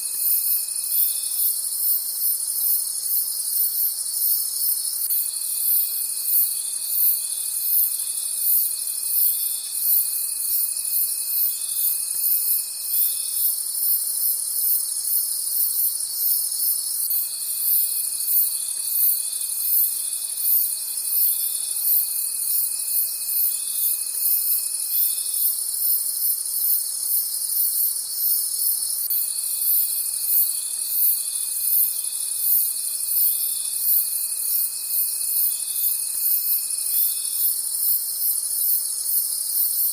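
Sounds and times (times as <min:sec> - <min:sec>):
crickets chirping: 0:00.0 - 0:39.9
steady high insect trill: 0:00.0 - 0:39.9.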